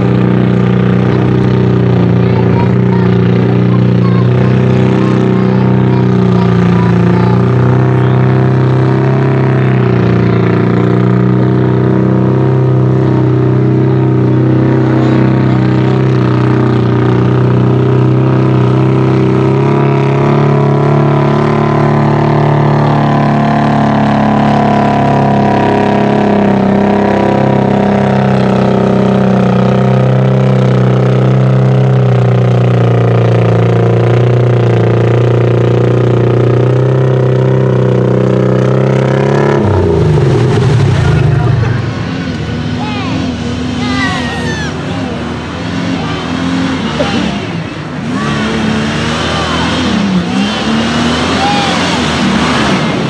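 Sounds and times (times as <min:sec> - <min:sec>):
truck engine at high revs: 0:00.0 - 0:53.0.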